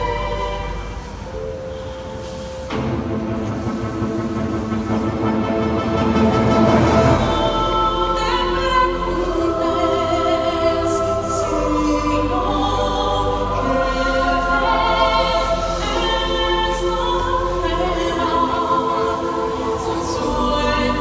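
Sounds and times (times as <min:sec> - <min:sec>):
choir singing held chords: 0:00.0 - 0:21.0.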